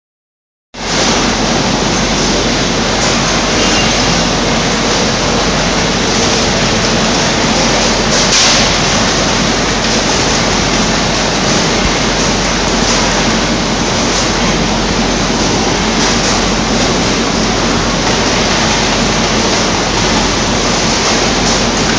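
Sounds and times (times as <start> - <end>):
packing-line machinery running: 0.8 - 21.9.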